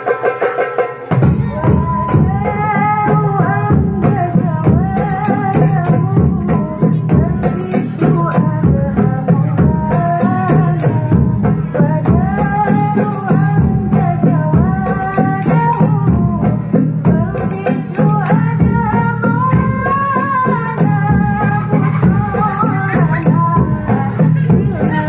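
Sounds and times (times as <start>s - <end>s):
barrel drum: 0.0s - 25.0s
frame drums: 0.0s - 25.0s
girl singing into a microphone: 1.2s - 25.0s.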